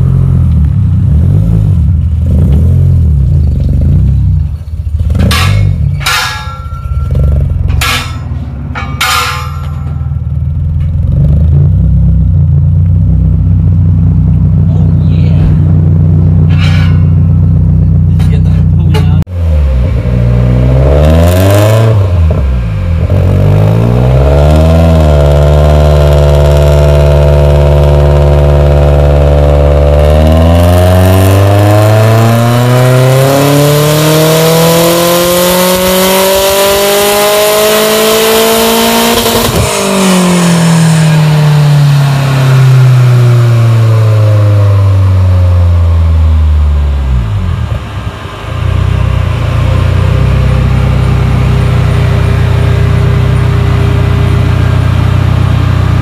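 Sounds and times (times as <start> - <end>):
turbocharged engine revving: 0.0 - 56.0.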